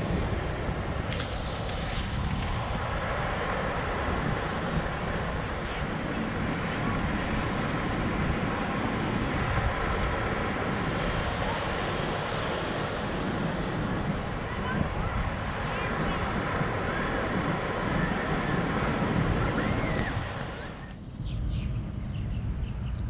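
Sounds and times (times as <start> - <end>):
ocean surf breaking: 0.0 - 20.9
wind buffeting microphone: 0.0 - 23.0.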